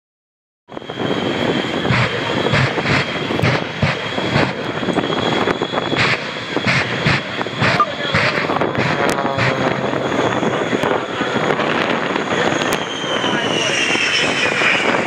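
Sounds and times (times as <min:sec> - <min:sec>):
high whine: 0:00.7 - 0:15.0
jet engines roaring: 0:00.7 - 0:15.0.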